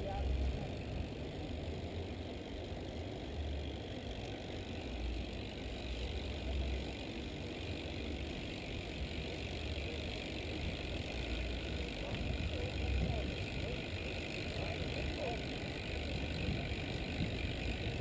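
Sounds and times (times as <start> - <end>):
bike tyre and drivetrain noise: 0.0 - 18.0.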